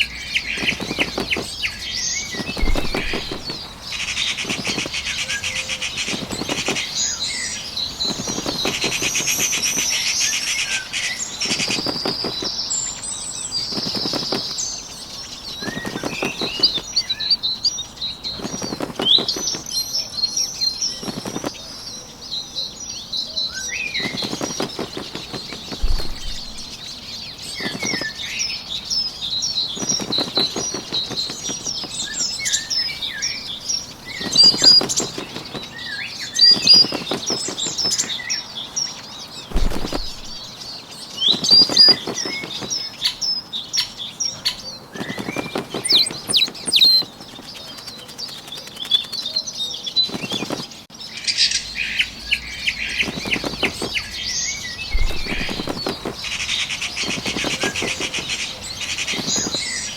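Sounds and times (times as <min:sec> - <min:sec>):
wings flapping: 0:00.0 - 0:20.0, 0:20.6 - 0:21.8, 0:23.7 - 0:38.4, 0:39.0 - 0:50.8, 0:52.5 - 0:59.9
small birds chirping: 0:00.0 - 0:59.9.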